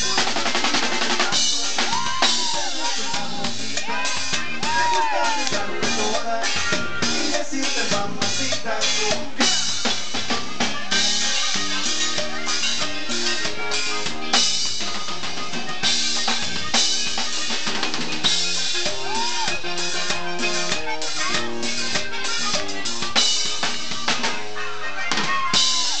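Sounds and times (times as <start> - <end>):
drum kit beat: 0.0 - 26.0
live band playing: 0.0 - 26.0.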